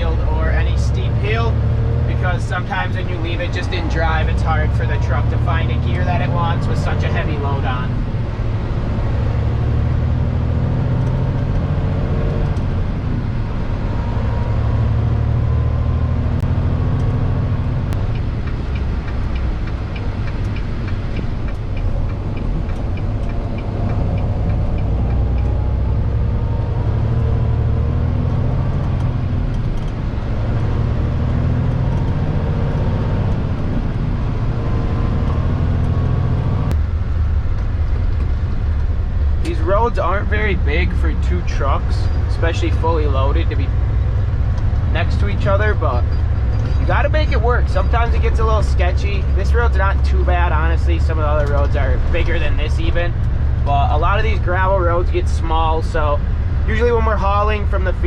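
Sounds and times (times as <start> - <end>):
diesel truck engine pulling hard: 0.0 - 58.0
regular ticking: 0.0 - 58.0.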